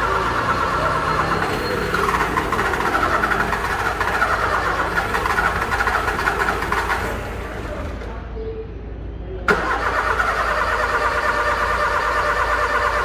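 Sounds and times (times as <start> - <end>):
starter solenoid clicking rapidly: 0.0 - 7.6, 9.5 - 13.0.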